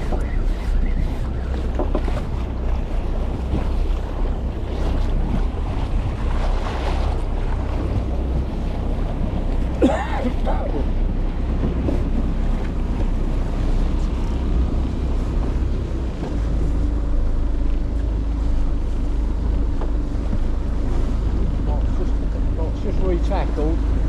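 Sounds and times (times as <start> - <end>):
steady low rumble: 0.0 - 24.0
water washing: 0.0 - 24.0
wind buffeting microphone: 0.0 - 24.0.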